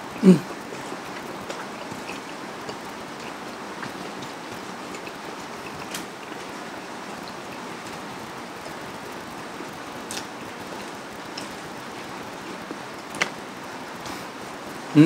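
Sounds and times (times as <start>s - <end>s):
rain-like hiss: 0.0s - 15.0s.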